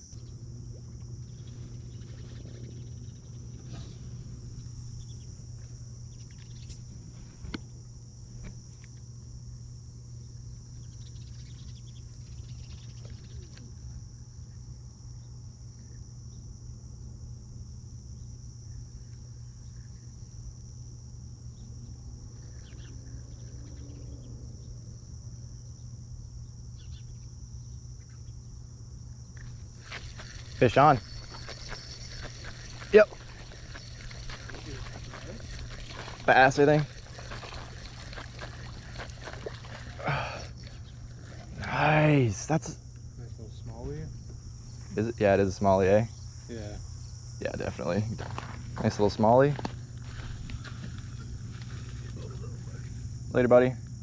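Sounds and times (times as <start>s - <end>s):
insects droning: 0.0s - 54.0s
steady low hum: 0.0s - 54.0s.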